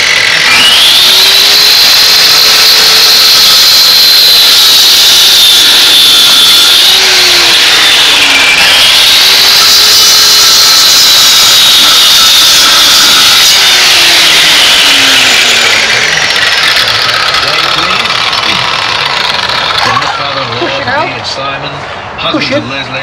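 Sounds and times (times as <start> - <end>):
angle grinder cutting concrete: 0.0 - 21.2.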